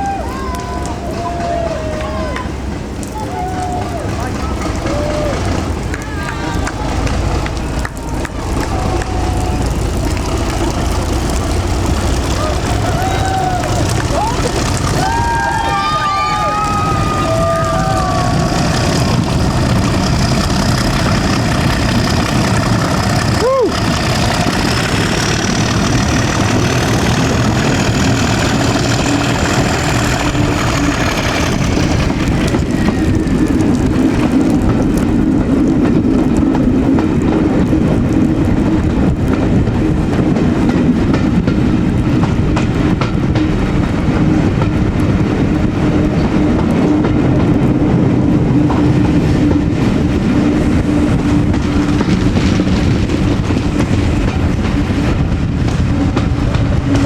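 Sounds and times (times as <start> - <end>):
diesel locomotive engine: 0.0 - 57.0
train wheels on rails: 0.0 - 57.0.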